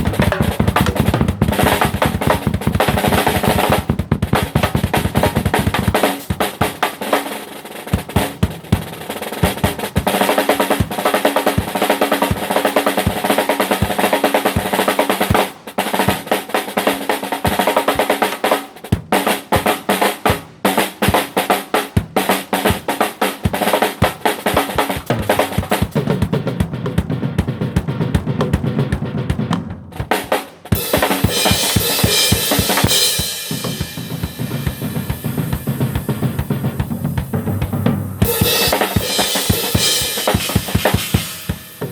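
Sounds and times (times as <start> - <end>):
drum kit playing: 0.0 - 41.9.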